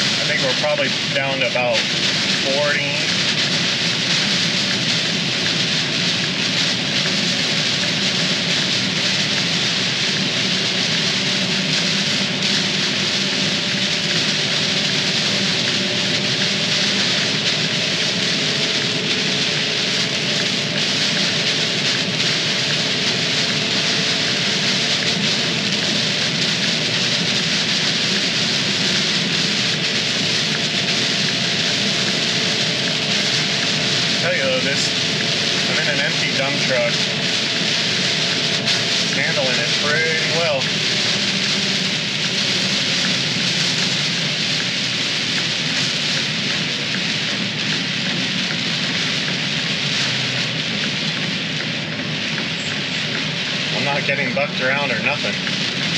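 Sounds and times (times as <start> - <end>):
faint truck engine running: 0.0 - 55.9
heavy rain on truck cab: 0.0 - 55.9.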